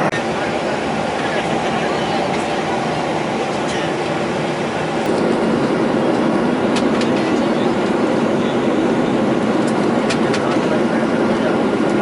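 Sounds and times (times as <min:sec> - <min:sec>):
vehicle interior rumbling: 0:00.0 - 0:12.0.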